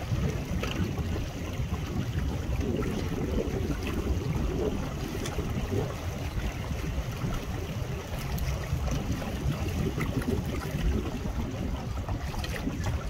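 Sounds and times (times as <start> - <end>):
small waves splashing and lapping: 0.0 - 13.0
wind buffeting microphone: 0.0 - 13.0.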